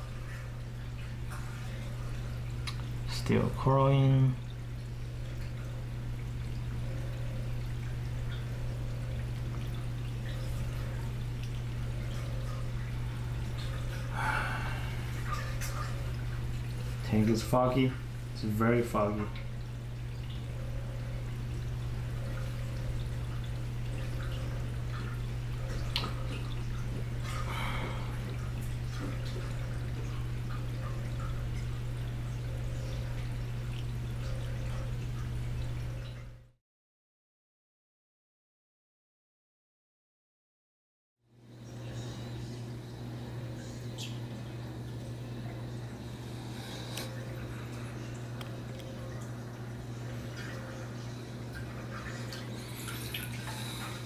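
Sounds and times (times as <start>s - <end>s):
water trickling and splashing: 0.0s - 36.4s, 41.6s - 54.0s
steady low hum: 0.0s - 36.6s, 41.3s - 54.0s.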